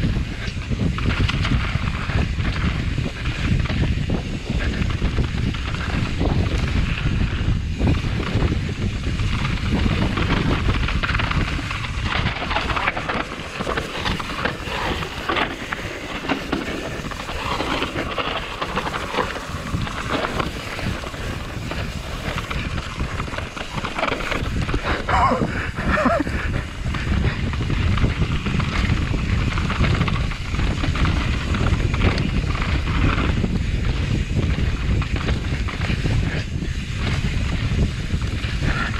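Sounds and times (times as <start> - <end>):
bike rattling and knocking: 0.0 - 38.9
wind buffeting microphone: 0.0 - 38.9
tyres on dirt: 0.2 - 38.9.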